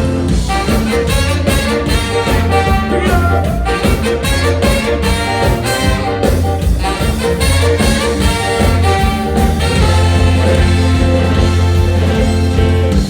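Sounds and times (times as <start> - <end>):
heavy bass line: 0.0 - 13.0
horn section melody: 0.0 - 13.0
ska band playing live: 0.0 - 13.0
steady drum beat: 0.0 - 13.0.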